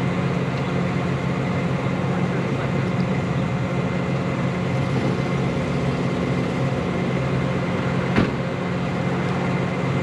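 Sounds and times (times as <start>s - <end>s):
road noise: 0.0s - 10.0s
truck engine drone: 0.0s - 10.0s.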